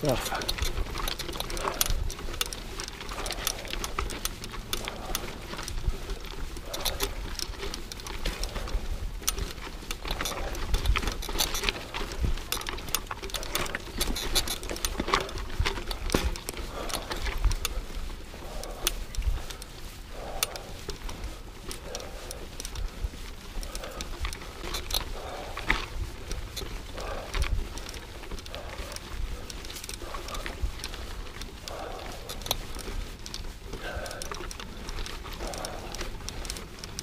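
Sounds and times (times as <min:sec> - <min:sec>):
mountain bike rattling over rocks: 0:00.0 - 0:37.0.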